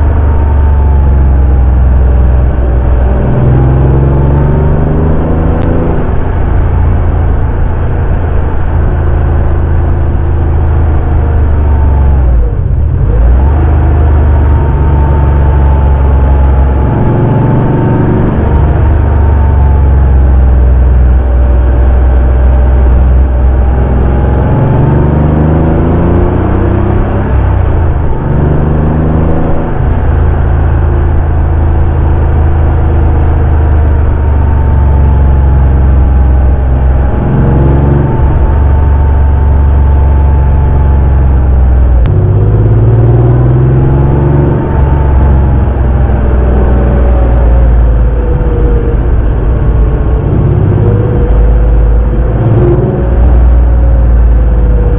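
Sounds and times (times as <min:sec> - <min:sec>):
car engine revving under load: 0:00.0 - 0:54.9.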